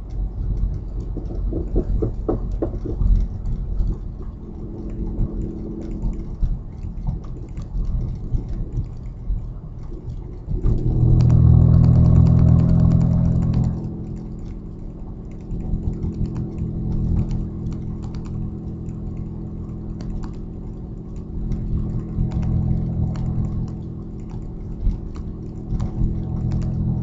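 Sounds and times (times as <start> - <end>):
car engine idling: 0.0 - 27.0
exhaust leak ticking: 0.0 - 27.0.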